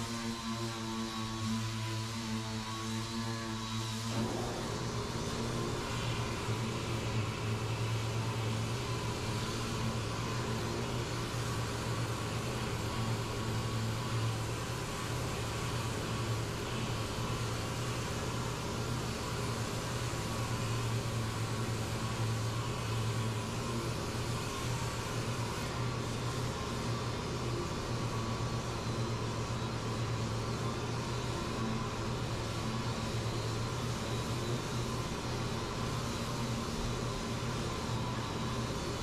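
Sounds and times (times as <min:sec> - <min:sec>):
air-powered orbital sander: 0:00.0 - 0:39.0.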